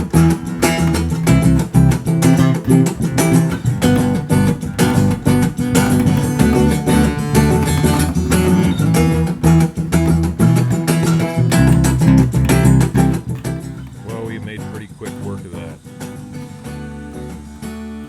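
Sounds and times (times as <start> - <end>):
steady beat: 0.0 - 17.8
bass: 0.0 - 18.0
strummed acoustic guitar: 0.0 - 18.0.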